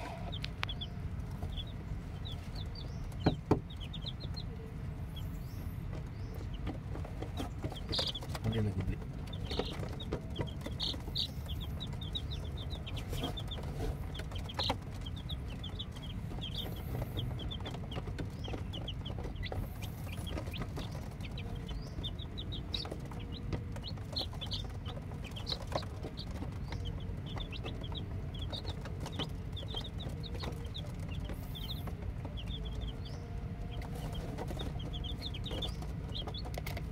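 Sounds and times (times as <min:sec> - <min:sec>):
chicks peeping: 0:00.0 - 0:36.9
steady low rumble: 0:00.0 - 0:36.9.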